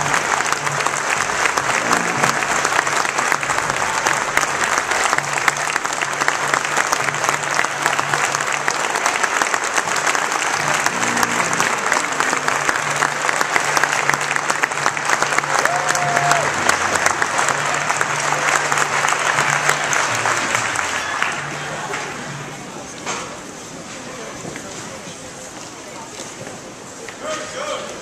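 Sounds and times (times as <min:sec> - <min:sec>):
large audience clapping: 0:00.0 - 0:22.4.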